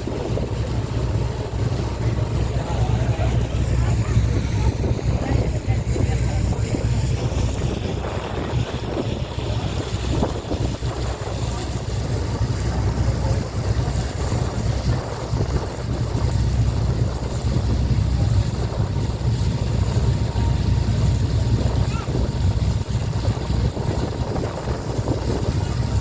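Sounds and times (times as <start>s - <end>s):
boat engine droning: 0.0s - 26.0s
water rushing past hull: 0.0s - 26.0s
wind on microphone: 0.0s - 26.0s.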